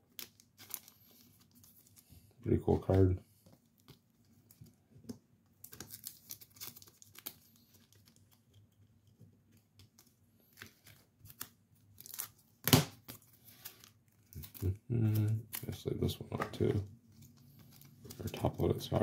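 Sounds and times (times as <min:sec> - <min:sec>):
plastic packaging crinkling: 0:00.1 - 0:02.1, 0:05.6 - 0:19.0.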